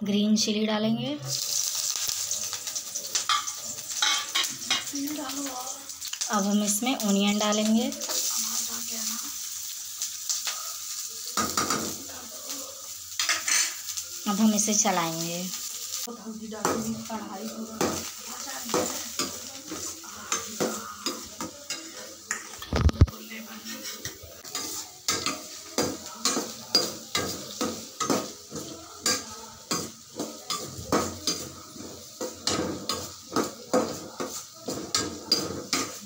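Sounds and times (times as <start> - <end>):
oil sizzling: 0.4 - 36.0
metal spoon scraping a pan: 1.3 - 14.8, 16.6 - 36.0.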